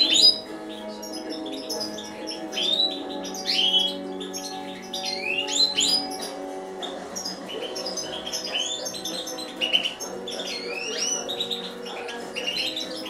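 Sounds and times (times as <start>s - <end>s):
background music of low tones: 0.0s - 13.0s
goldfinch twittering song: 0.0s - 13.0s.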